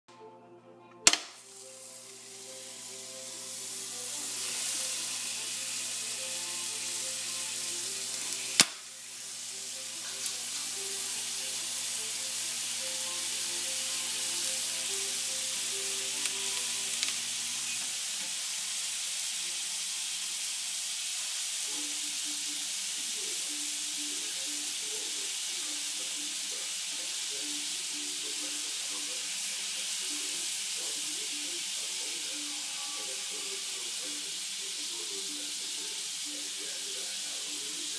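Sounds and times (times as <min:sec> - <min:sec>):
water sizzling on hot pan: 0:01.2 - 0:37.9.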